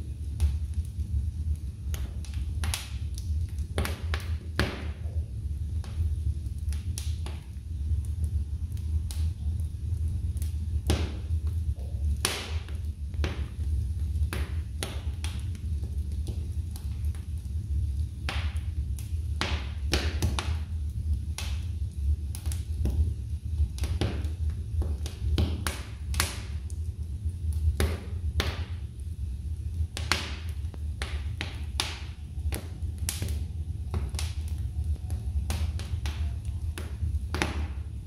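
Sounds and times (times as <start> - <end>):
fire low rumble: 0.0 - 38.0
logs crackling and popping: 0.0 - 38.0.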